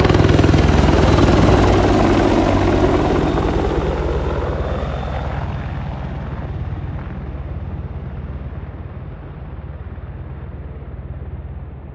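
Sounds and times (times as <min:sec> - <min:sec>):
helicopter rotor chop: 0:00.0 - 0:11.4.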